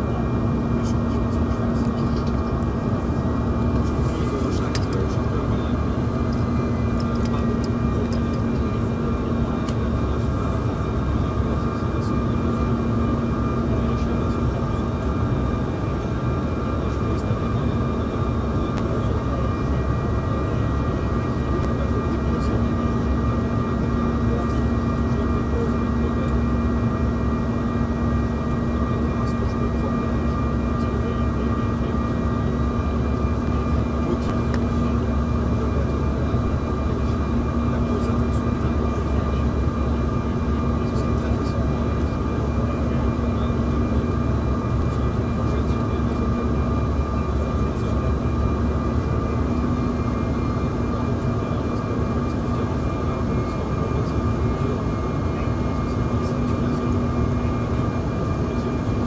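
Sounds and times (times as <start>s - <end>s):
jet engine cabin rumble: 0.0s - 59.0s
steady whining tones: 0.0s - 59.0s.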